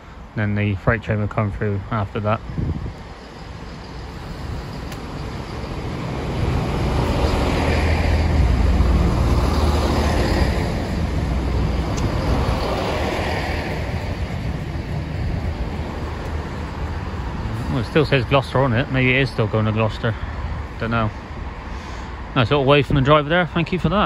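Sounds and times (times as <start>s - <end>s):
train engine and wheel rumble: 0.0s - 24.0s.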